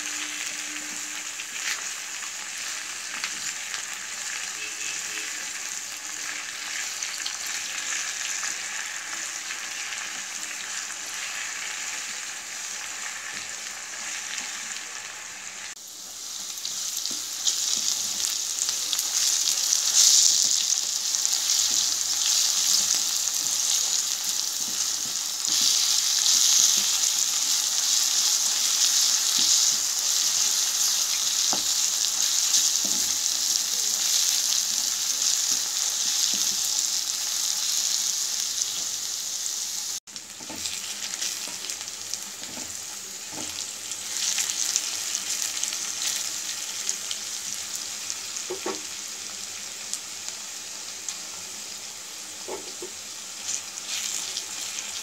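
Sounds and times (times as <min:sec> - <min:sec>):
oil sizzling in a pan: 0:00.0 - 0:55.0.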